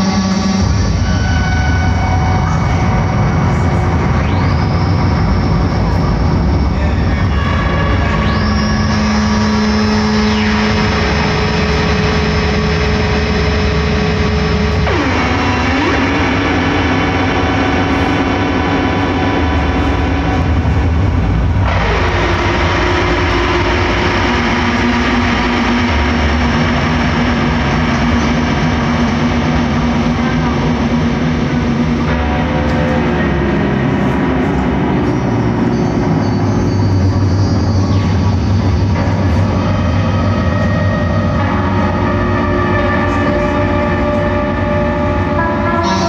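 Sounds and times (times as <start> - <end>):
deep low rumble: 0.0 - 45.7
electric guitar ambient drone: 0.0 - 46.0.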